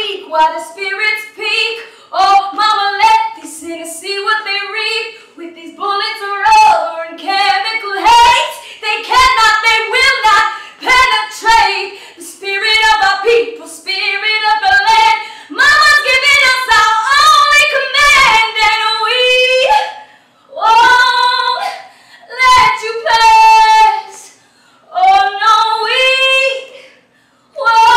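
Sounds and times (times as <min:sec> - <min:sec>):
woman singing unaccompanied: 0:00.0 - 0:26.8, 0:27.6 - 0:27.9.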